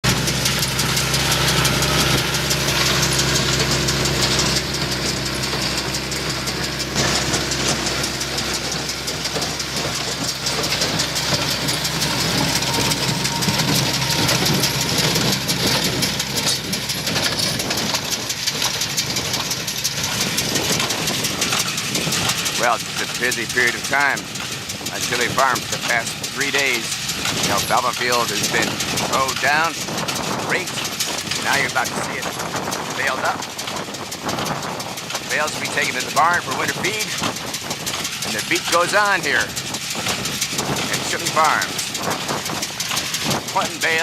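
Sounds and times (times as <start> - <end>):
hay baler clattering: 0.0 - 44.0
tractor engine running: 0.0 - 44.0.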